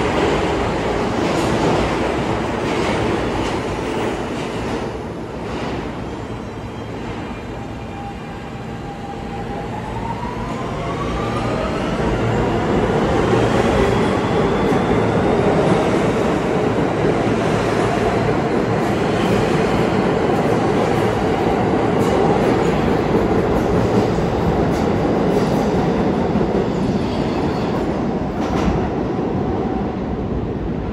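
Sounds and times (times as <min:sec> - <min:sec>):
train wheels rumbling on rail: 0:00.0 - 0:08.3, 0:11.2 - 0:30.9.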